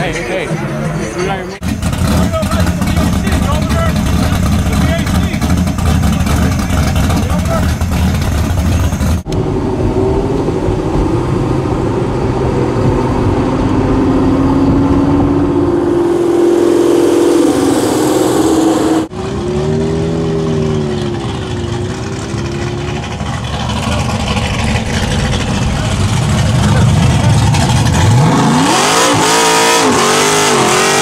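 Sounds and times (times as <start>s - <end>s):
car engine accelerating: 0.4s - 31.0s
car engine revving: 0.4s - 31.0s.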